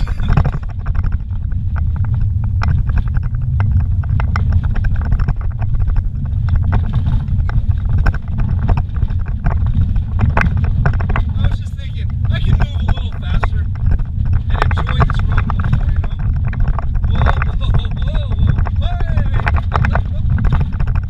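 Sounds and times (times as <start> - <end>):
car tyres and engine rumbling: 0.0 - 21.0
knocks and rattles: 0.0 - 21.0.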